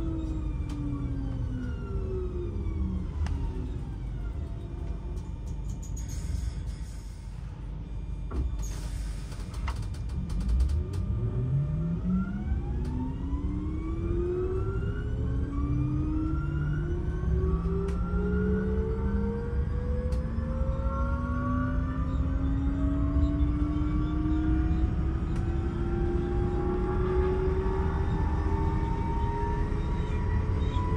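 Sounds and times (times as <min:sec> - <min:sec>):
wheels rumbling on track: 0:00.0 - 0:30.9.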